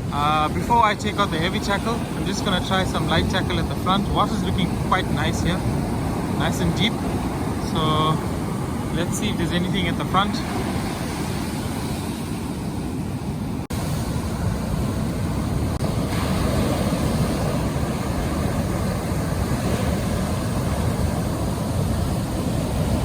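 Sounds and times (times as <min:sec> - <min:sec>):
surf washing on a beach: 0:00.0 - 0:23.0
wind rumbling on microphone: 0:00.0 - 0:23.0.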